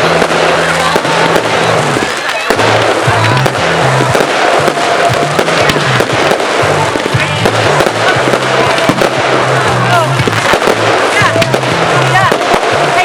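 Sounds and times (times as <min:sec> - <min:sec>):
fireworks crackles and bangs: 0:00.0 - 0:13.0
music with steady bass line: 0:00.0 - 0:13.0.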